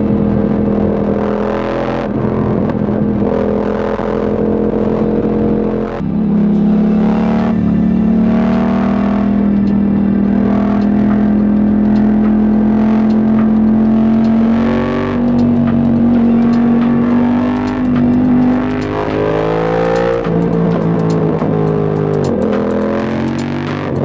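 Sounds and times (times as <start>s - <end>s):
background music: 0.0s - 24.0s
motorcycle engine cruising: 0.0s - 24.0s.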